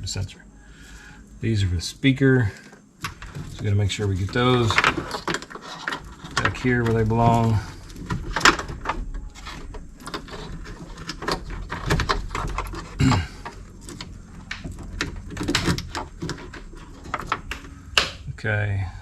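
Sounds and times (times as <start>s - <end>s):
plastic connectors clicking and rattling: 3.0s - 18.2s.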